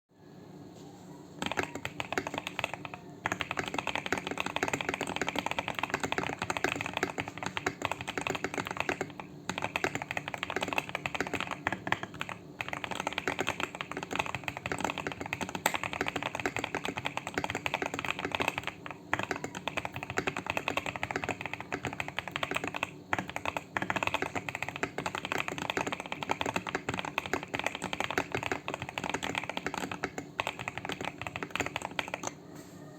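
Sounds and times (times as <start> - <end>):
fast mechanical keyboard typing: 1.4 - 32.4.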